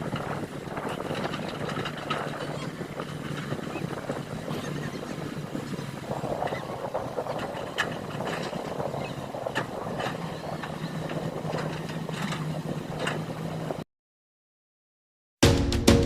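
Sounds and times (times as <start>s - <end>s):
engine running steadily: 0.0s - 13.8s
outdoor noise: 0.0s - 13.8s.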